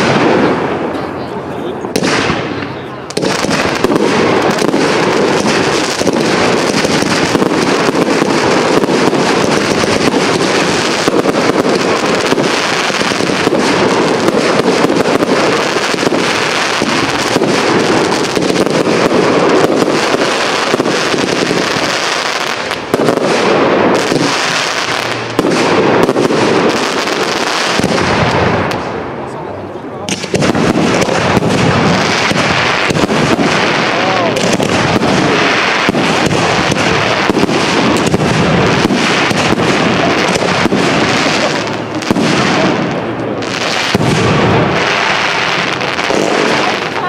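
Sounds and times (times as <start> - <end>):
crackling firework stars: 0.0 - 47.0.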